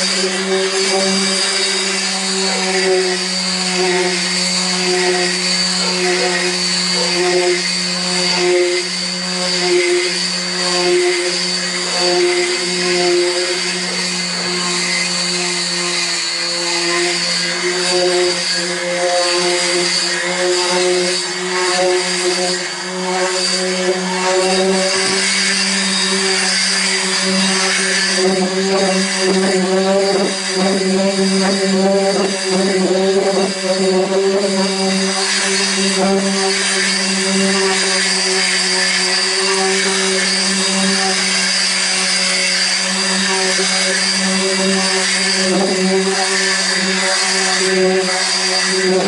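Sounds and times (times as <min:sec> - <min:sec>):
electric palm sander grinding: 0:00.0 - 0:49.0.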